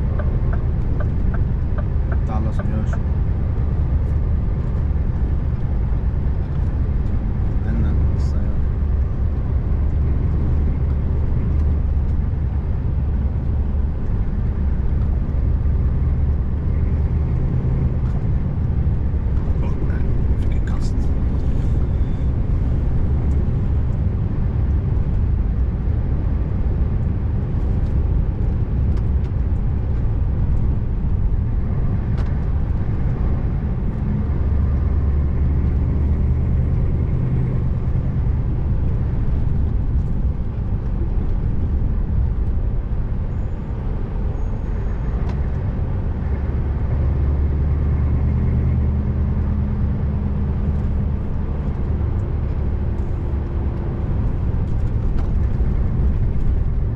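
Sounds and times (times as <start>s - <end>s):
diesel truck engine droning: 0.0s - 56.9s
road and tyre noise: 0.0s - 56.9s.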